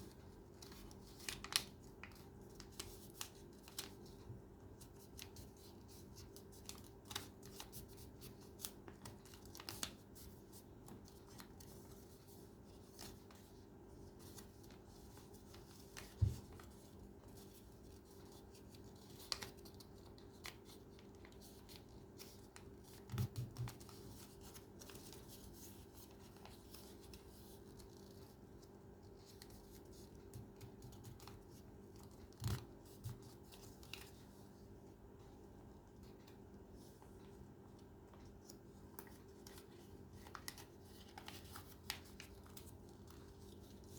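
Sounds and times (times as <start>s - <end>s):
paper crinkling: 0.1s - 4.3s, 4.9s - 34.3s, 38.1s - 43.9s.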